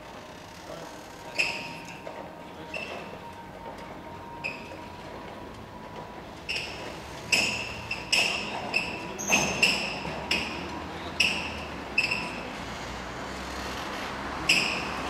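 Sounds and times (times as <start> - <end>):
roller shutter slats clanking: 0.0 - 15.0.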